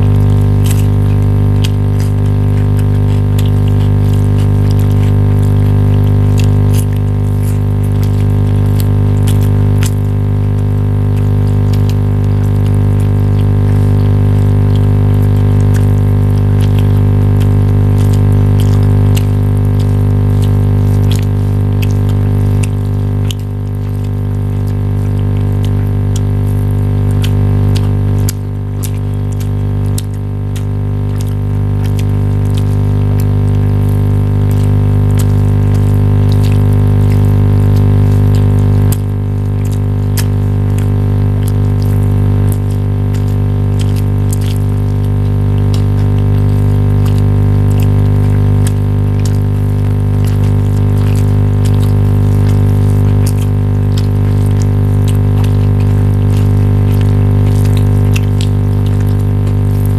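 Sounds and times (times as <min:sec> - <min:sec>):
loud low hum: 0:00.0 - 0:59.9.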